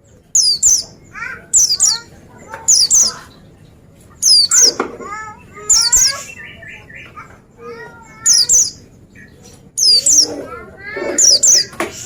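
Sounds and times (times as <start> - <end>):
bird twittering: 0.3 - 3.6, 4.2 - 12.0.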